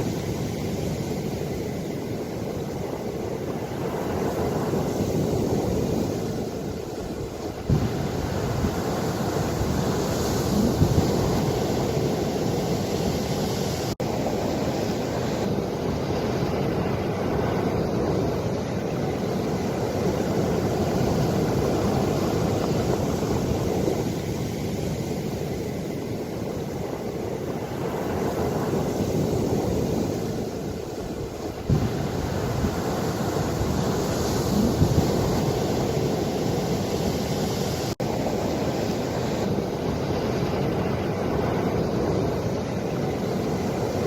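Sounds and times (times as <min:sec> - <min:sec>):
ocean waves washing ashore: 0:00.0 - 0:44.0
wind on microphone: 0:00.0 - 0:44.0.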